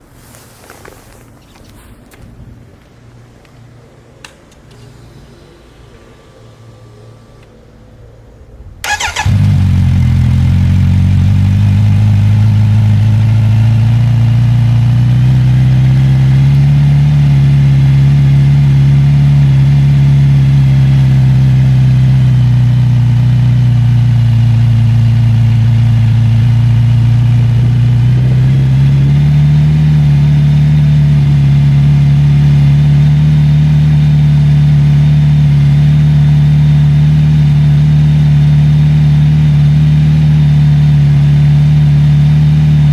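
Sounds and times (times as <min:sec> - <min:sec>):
motorcycle engine starting and idling: 0:04.2 - 0:42.9.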